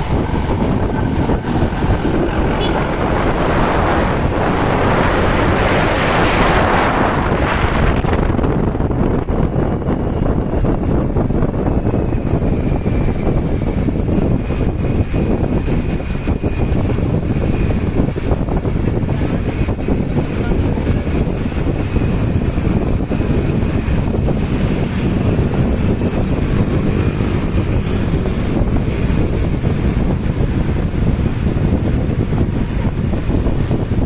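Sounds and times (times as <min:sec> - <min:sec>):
bus diesel engine and exhaust: 0:00.0 - 0:34.0
wind buffeting microphone: 0:00.0 - 0:34.0.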